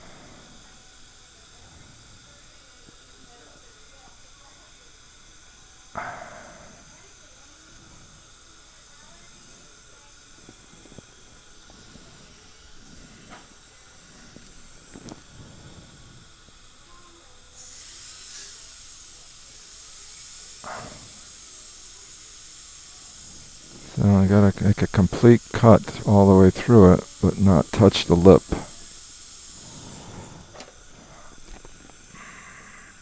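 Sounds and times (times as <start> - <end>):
dental drill hissing: 0.0 - 33.0.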